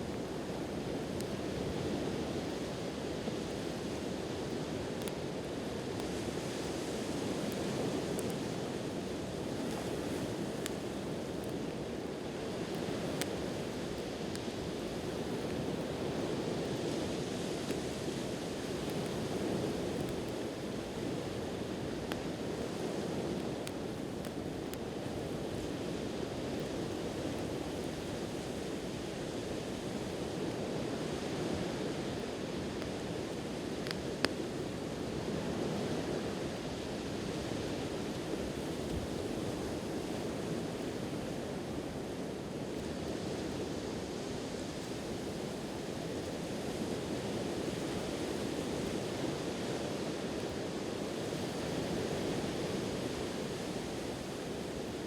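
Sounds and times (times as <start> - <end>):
campfire crackling: 0.0 - 55.0
surf washing on shore: 0.0 - 55.0.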